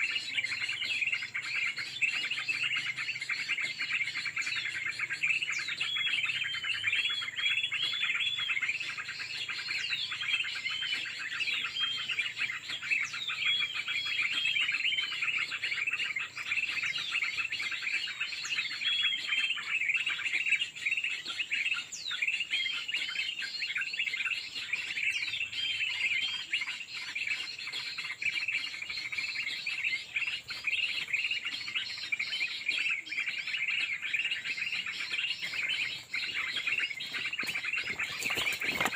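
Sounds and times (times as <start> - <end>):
arched whistled bird notes: 0.0 - 38.9
small birds chirping: 0.0 - 38.9.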